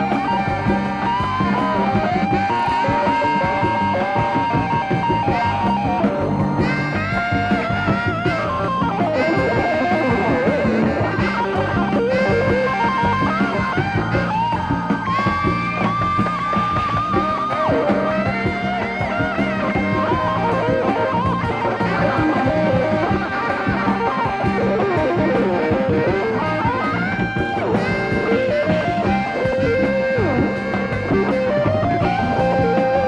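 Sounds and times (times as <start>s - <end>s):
electric guitar lead melody: 0.0s - 33.0s
full band playing: 0.0s - 33.0s
tenor saxophone melody: 0.0s - 33.0s.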